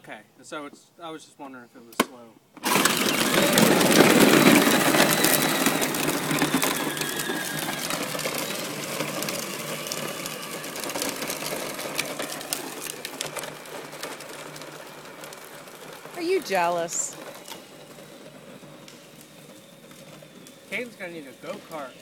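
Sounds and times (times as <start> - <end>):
clicks and crackles: 1.9 - 16.2, 17.1 - 22.0
toy tractor motor whining: 2.6 - 22.0.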